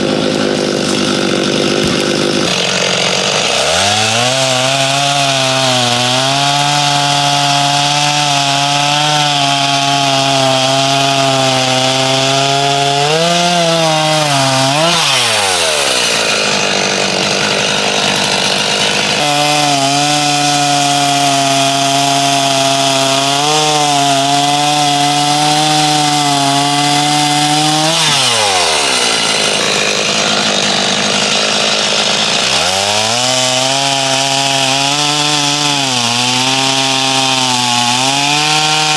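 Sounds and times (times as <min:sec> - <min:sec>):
chainsaw cutting at high revs: 0:00.0 - 0:38.9.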